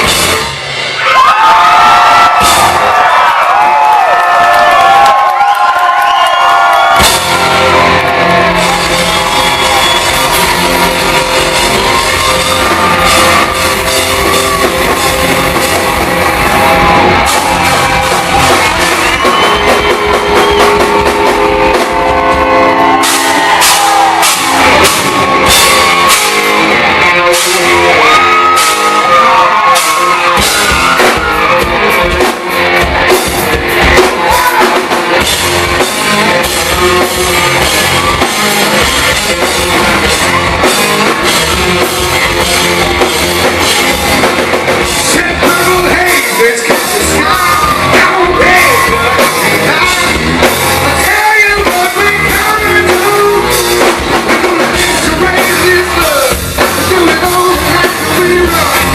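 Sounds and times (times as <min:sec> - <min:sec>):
hard rock band playing: 0:00.0 - 0:58.9.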